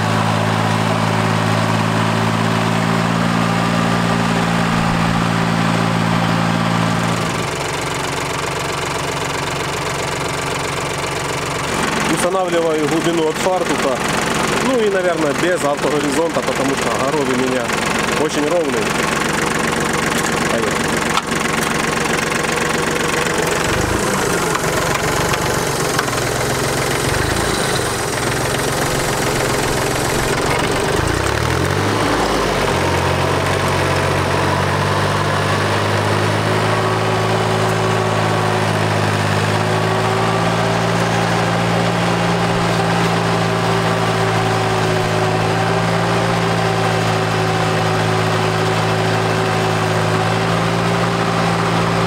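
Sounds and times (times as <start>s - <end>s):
tractor diesel engine tilling: 0.0s - 52.0s.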